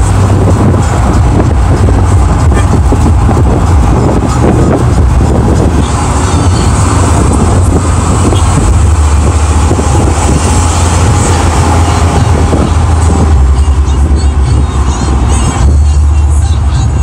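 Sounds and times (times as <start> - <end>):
road and engine rumble in a bus: 0.0 - 17.0.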